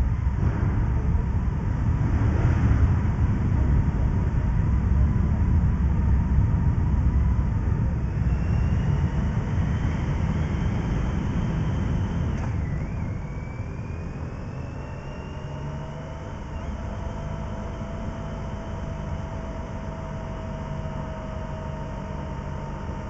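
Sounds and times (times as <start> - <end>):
faint engine whine: 0.0 - 23.0
road rumble: 0.0 - 23.0.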